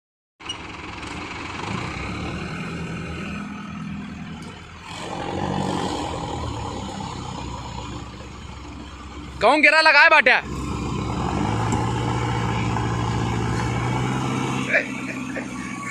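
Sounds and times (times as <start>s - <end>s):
combine harvester engine running: 0.4s - 15.9s.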